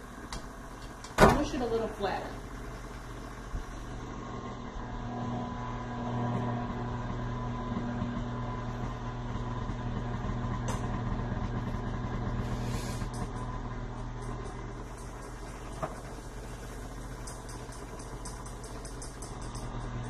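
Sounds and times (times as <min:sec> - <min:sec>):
stand mixer motor running: 0:02.0 - 0:20.0.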